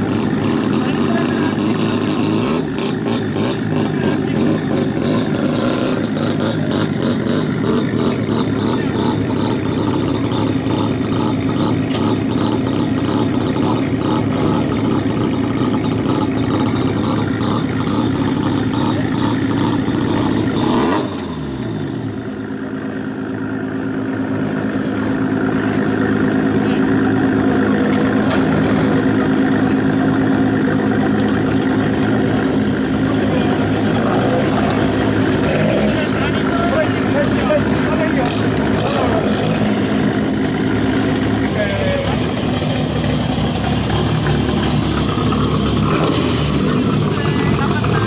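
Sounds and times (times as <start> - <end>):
old car engine idling: 0.0 - 48.0
smooth steady engine drone: 0.0 - 48.0.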